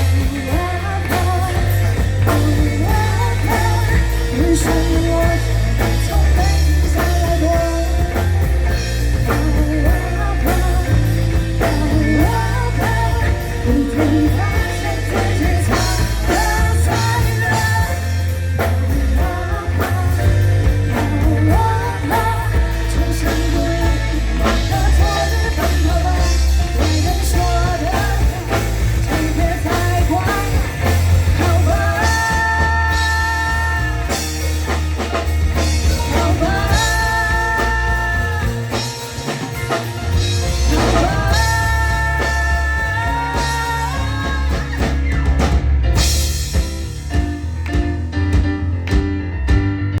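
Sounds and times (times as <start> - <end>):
rock music with singing: 0.0 - 50.0.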